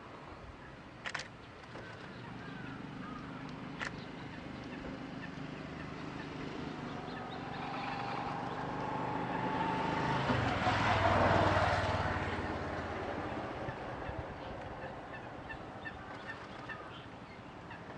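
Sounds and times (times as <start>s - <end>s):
vehicle passing: 1.8s - 17.8s.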